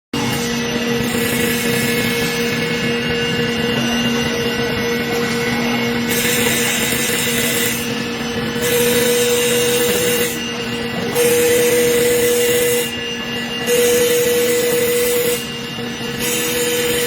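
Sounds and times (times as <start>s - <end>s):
wood lathe motor hum: 0.2s - 17.0s.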